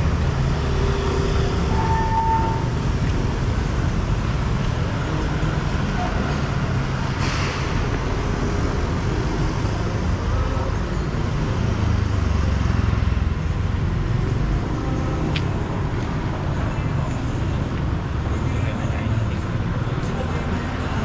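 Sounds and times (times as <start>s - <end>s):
traffic engine rumble: 0.0s - 21.0s.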